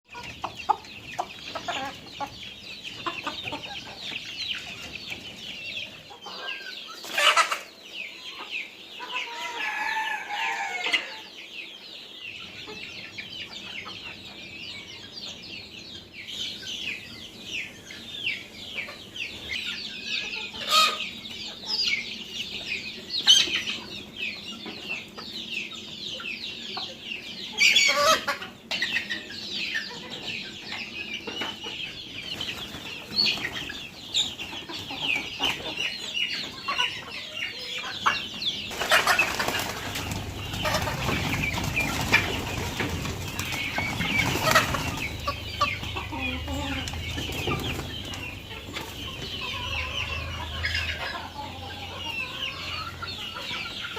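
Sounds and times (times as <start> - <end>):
chickens calling: 0.0 - 53.9.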